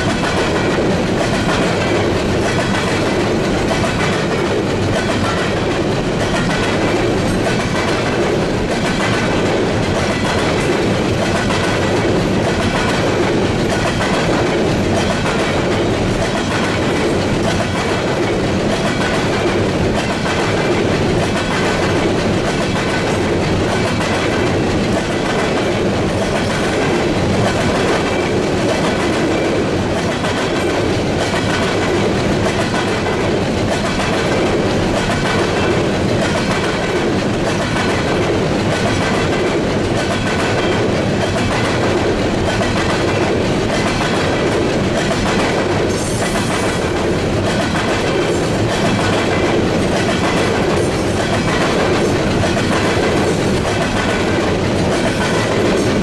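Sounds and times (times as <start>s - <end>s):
train wheels clattering over rails: 0.0s - 56.0s.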